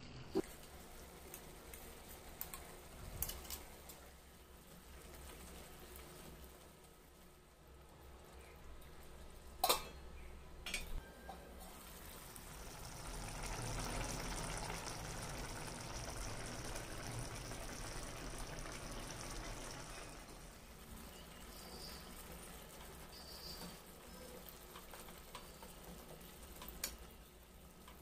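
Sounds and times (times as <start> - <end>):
curry simmering and sizzling: 0.0 - 28.0.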